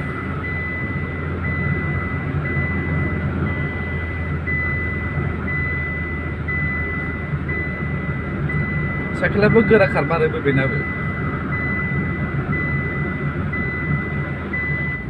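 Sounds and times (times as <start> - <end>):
car cabin drone: 0.0 - 15.0
high electronic beep: 0.0 - 15.0.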